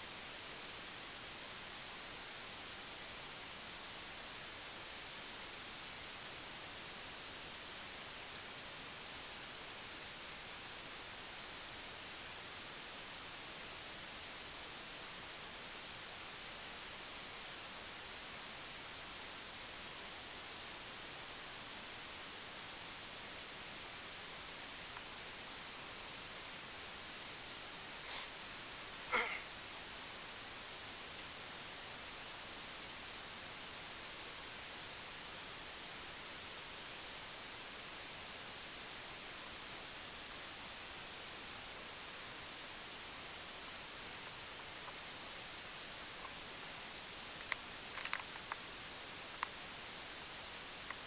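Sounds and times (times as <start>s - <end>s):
steady static hiss: 0.0s - 51.0s.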